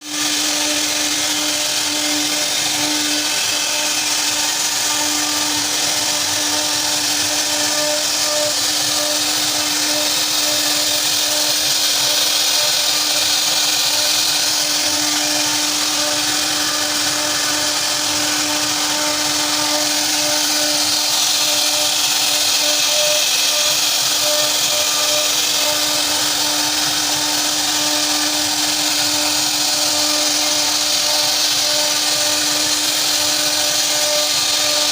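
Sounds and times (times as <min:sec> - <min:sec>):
hiss of wood cutting: 0:00.0 - 0:34.9
router spindle high whine: 0:00.0 - 0:34.9.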